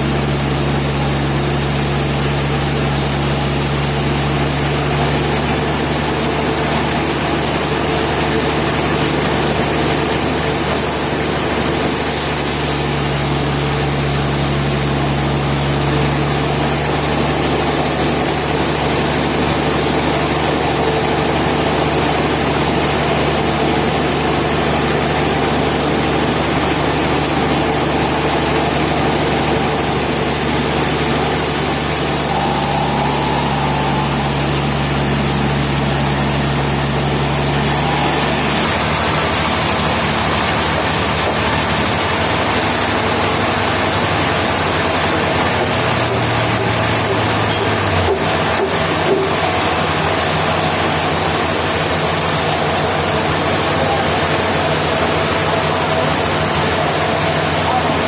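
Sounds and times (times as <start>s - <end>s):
machine drone: 0.0s - 58.0s.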